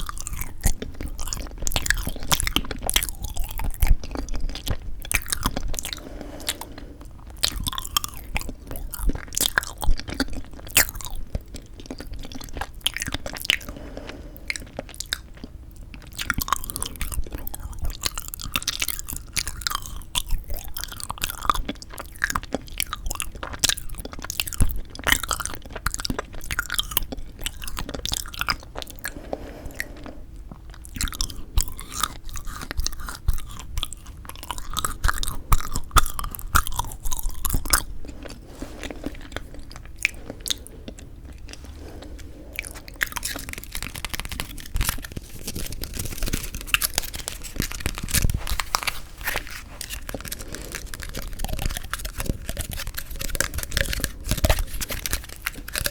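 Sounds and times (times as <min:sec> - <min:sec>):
chewing and crunching frozen jelly: 0:00.0 - 0:55.9.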